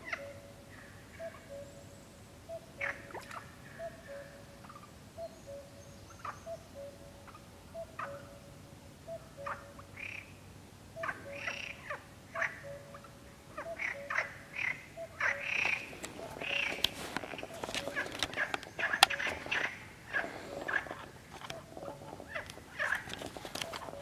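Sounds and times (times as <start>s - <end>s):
cuckoo calling: 0.0s - 24.0s
frogs croaking: 0.0s - 24.0s.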